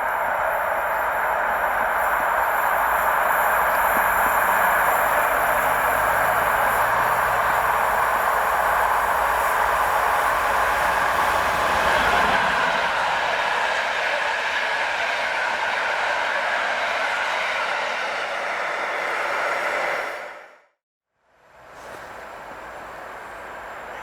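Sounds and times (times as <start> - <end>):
train wheels rolling on rails: 0.0 - 20.6, 21.5 - 24.0.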